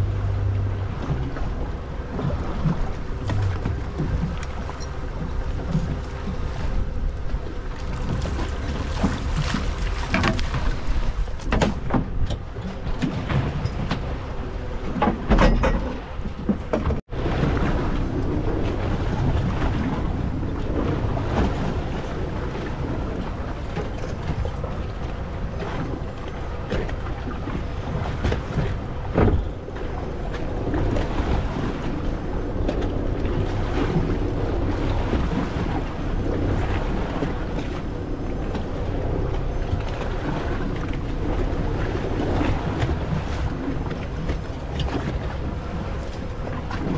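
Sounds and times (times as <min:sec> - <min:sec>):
water slapping against boat hull: 0:00.0 - 0:46.9
wind buffeting microphone: 0:00.0 - 0:46.9.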